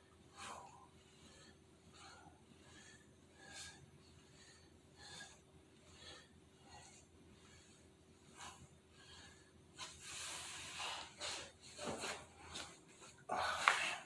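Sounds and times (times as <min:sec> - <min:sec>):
man breathing hard: 0:00.1 - 0:14.0.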